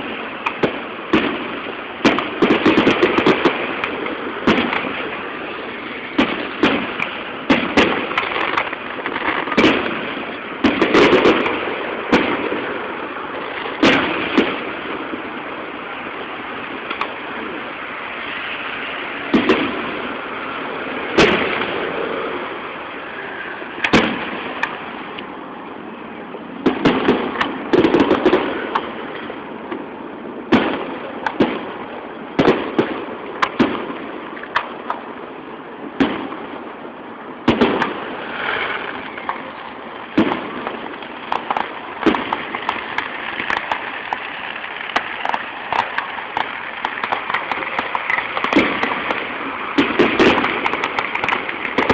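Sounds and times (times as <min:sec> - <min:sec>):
background hiss: 0:00.0 - 0:51.9
fireworks bursting: 0:00.0 - 0:51.9.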